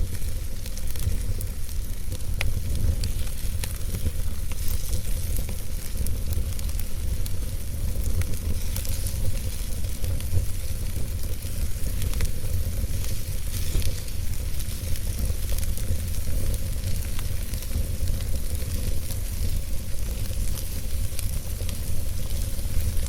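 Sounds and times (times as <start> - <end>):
flames rumbling: 0.0 - 23.0
logs crackling and popping: 0.0 - 23.0.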